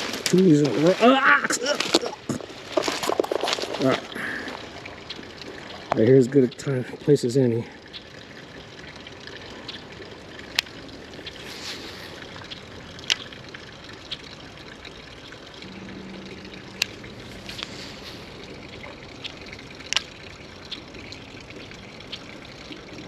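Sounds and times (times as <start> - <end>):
creek water trickling: 0.0 - 23.0.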